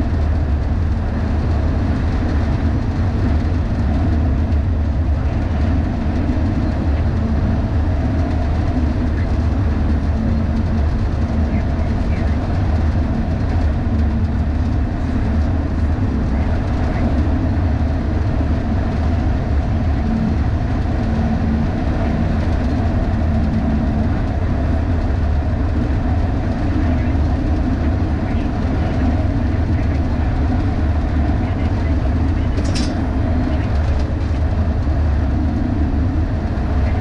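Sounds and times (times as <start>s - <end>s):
truck tyre and engine noise: 0.0s - 37.0s
wind buffeting microphone: 0.0s - 37.0s.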